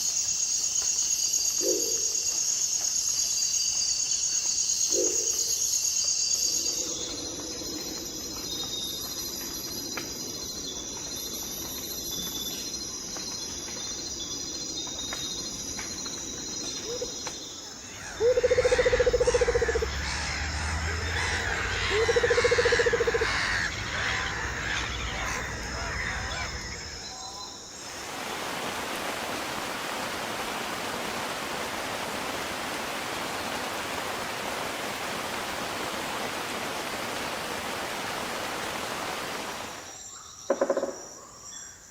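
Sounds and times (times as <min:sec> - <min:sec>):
outdoor ambience hiss: 0:00.0 - 0:41.9.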